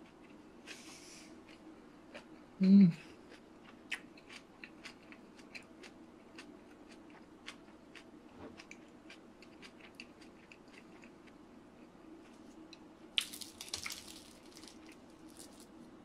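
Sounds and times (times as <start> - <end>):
faint chewing: 0.0 - 15.7
low room hum: 0.0 - 16.0.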